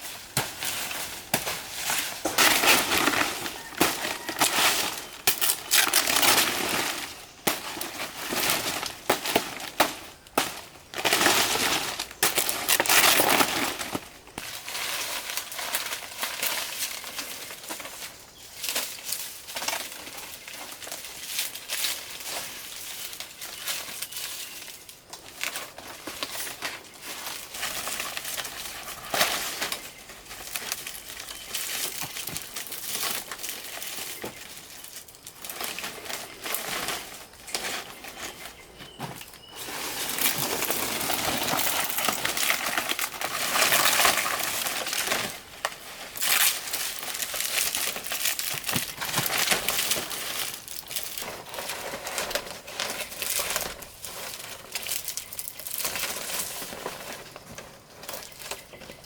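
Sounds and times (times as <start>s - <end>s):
rustling crinkling handling noise: 0.0s - 59.0s.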